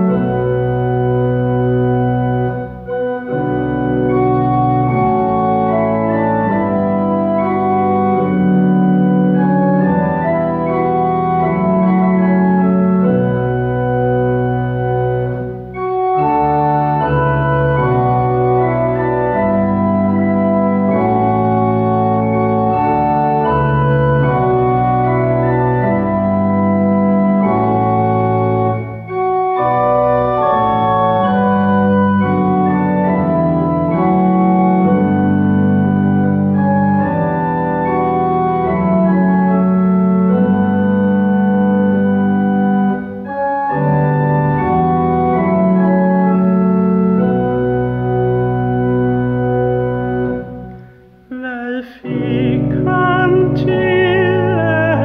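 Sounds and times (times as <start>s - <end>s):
pipe organ playing chords: 0.0s - 51.4s, 52.0s - 55.0s.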